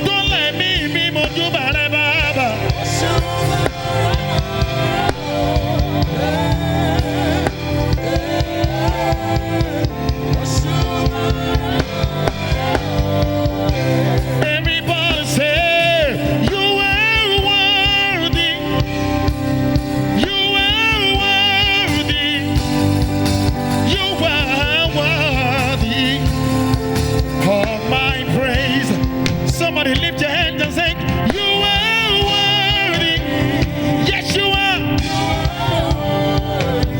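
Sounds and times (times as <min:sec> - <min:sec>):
band with drum kit: 0:00.0 - 0:36.9
person singing with vibrato: 0:00.0 - 0:36.9.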